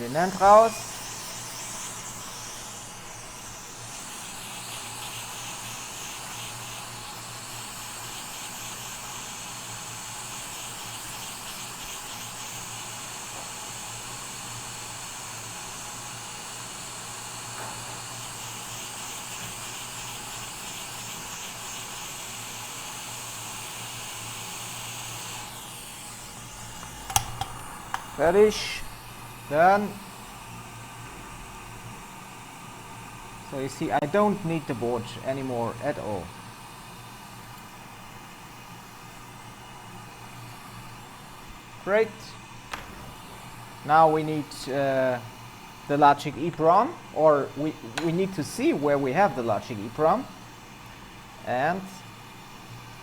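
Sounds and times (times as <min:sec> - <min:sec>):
hot air blower hissing: 0:00.0 - 0:53.0.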